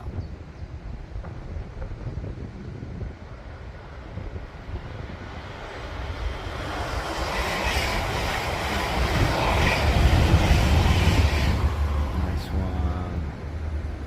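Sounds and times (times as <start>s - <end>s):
wind rumbling on microphone: 0.0s - 14.0s
passenger train rushing past: 1.6s - 14.0s.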